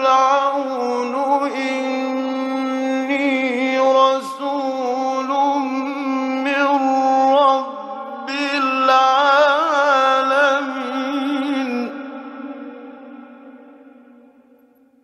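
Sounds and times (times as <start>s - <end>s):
man chanting melodically: 0.0s - 14.4s.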